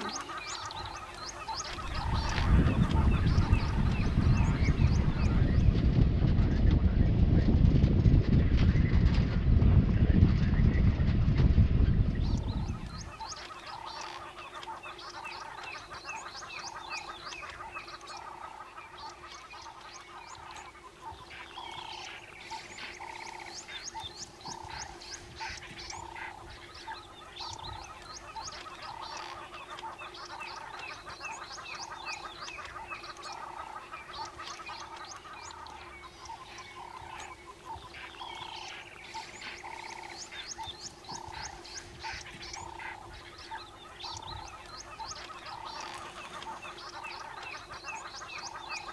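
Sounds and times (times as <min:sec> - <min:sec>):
low repeated animal call: 0:00.0 - 0:05.6, 0:12.3 - 0:48.9
bird chirps: 0:00.0 - 0:05.7, 0:12.2 - 0:48.9.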